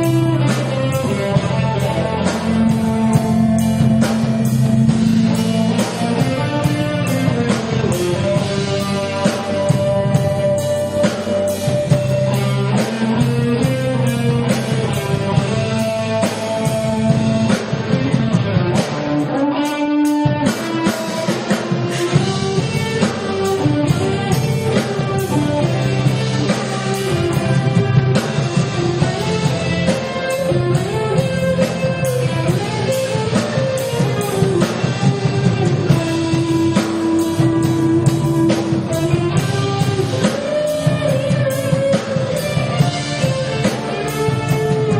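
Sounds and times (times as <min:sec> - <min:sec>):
bass guitar: 0:00.0 - 0:44.9
drum kit: 0:00.0 - 0:44.9
electric guitar: 0:00.0 - 0:44.9.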